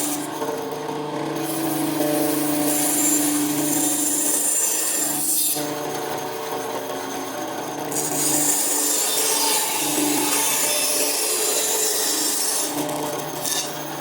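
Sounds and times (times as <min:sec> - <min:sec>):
power tool sawing wood: 0:00.0 - 0:14.0.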